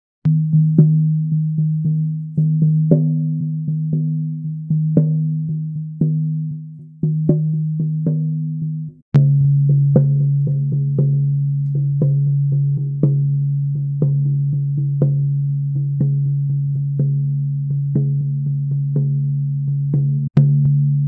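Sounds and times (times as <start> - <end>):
frame drum beating: 0.3 - 21.0.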